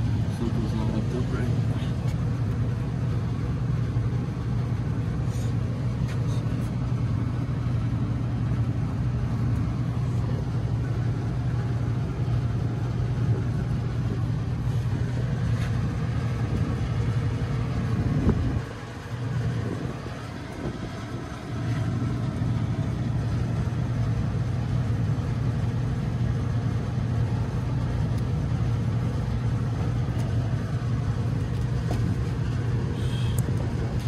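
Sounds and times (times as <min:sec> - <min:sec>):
hvac equipment humming: 0:00.0 - 0:34.0.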